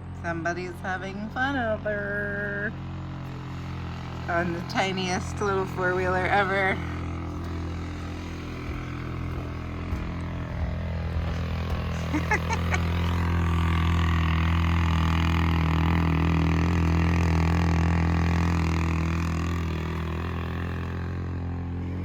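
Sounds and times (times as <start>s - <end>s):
mini atv engine humming: 0.0s - 22.0s.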